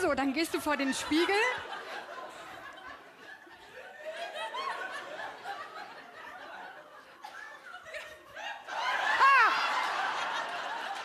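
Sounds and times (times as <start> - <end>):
audience laughing: 0.3 - 11.0.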